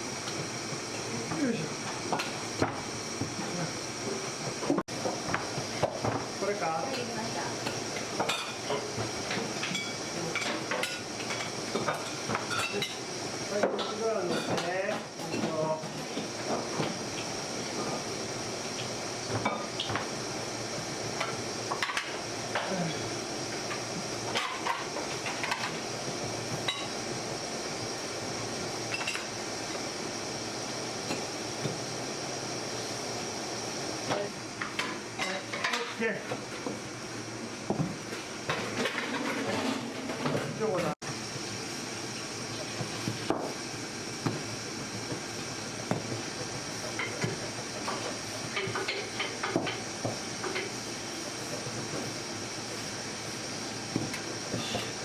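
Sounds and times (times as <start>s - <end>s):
workshop equipment hum and hiss: 0.0s - 55.0s.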